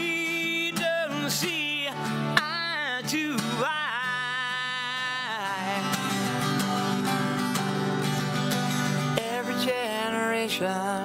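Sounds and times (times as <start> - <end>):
person singing wordlessly: 0.0 - 7.0, 9.1 - 11.0
acoustic guitar strumming: 0.0 - 11.0.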